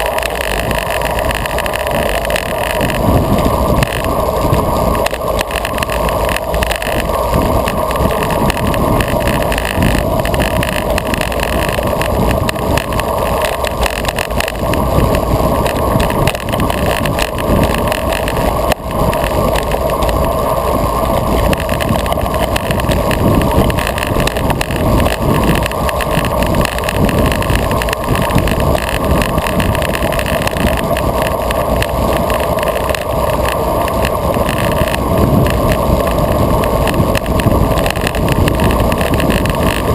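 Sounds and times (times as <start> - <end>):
bike tyre and road noise: 0.0 - 39.9
wind noise on microphone: 0.0 - 39.9.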